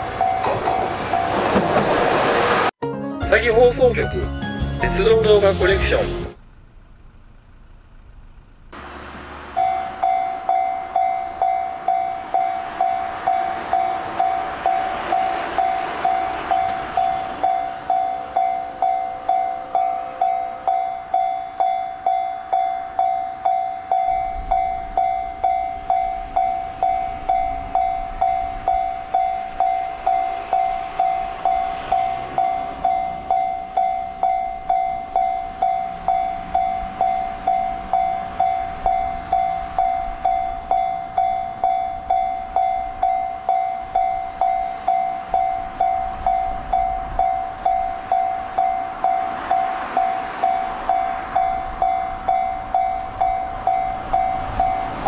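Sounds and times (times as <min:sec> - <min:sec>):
level crossing bell dinging: 0:00.0 - 0:01.3, 0:09.6 - 0:55.0
diesel railcar engine and wheels: 0:00.0 - 0:55.0.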